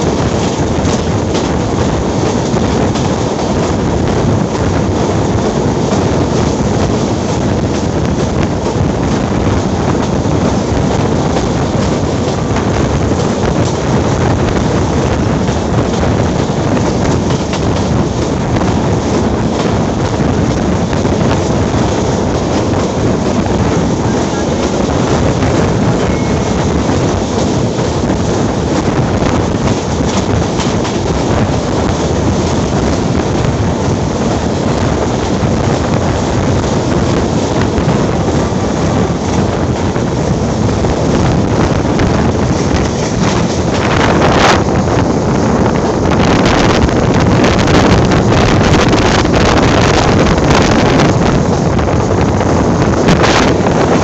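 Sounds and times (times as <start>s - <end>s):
train wheels on rails: 0.0s - 54.0s
wind blowing on a microphone: 0.0s - 54.0s.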